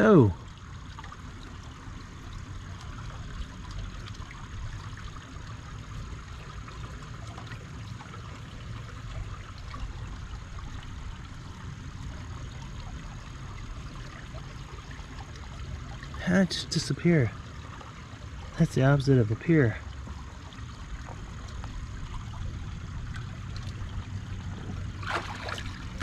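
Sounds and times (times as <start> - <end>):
creek water babbling: 0.0 - 26.0.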